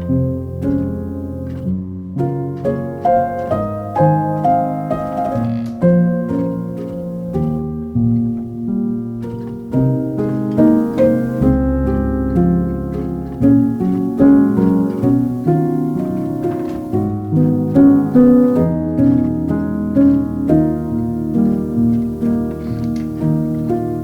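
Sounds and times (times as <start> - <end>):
calm harp and piano music: 0.0 - 24.0.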